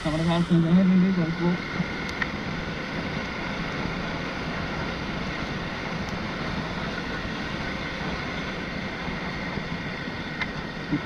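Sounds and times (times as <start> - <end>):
vehicle engine running: 0.0 - 11.0
wind rumble on microphone: 0.0 - 11.0.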